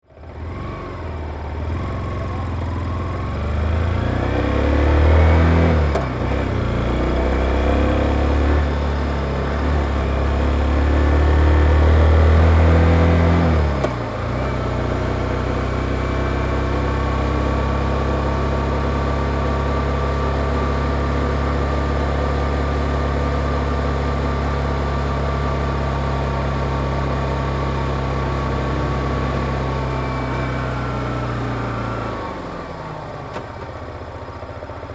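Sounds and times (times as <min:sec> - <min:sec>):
motorcycle engine revving: 0:00.2 - 0:33.6.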